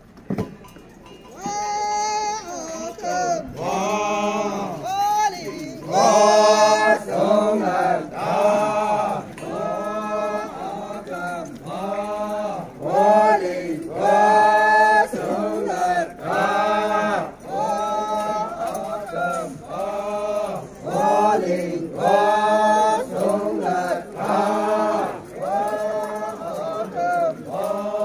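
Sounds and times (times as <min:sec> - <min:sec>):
men chanting together: 0:02.4 - 0:28.0.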